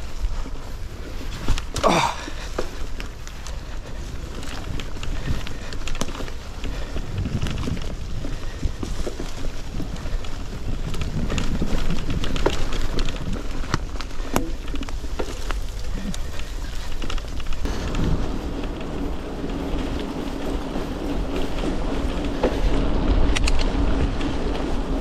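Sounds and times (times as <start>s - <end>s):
bike rattling and clicking: 0.0s - 25.0s
steady low rumble: 0.0s - 25.0s
tyres crunching on leaves: 0.0s - 25.0s.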